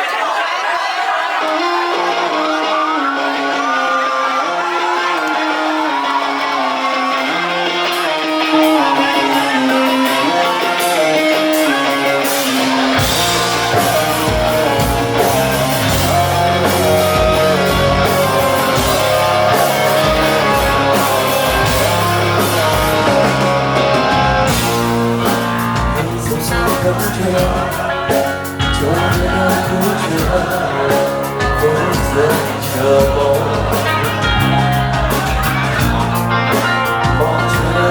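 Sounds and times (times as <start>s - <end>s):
electric guitar: 1.4s - 37.9s
bass guitar: 1.6s - 37.9s
drum kit: 5.0s - 37.9s.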